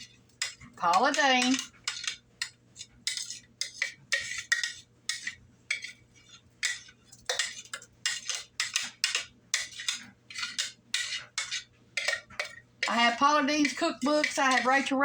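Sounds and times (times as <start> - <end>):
metal utensil scraping a pot: 0.0 - 15.0.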